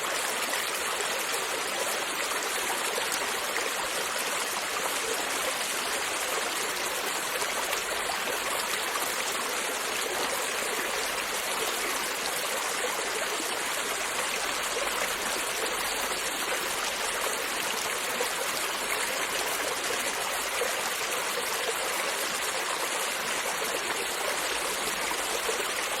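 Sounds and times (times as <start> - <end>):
creek babbling over stones: 0.0 - 26.0.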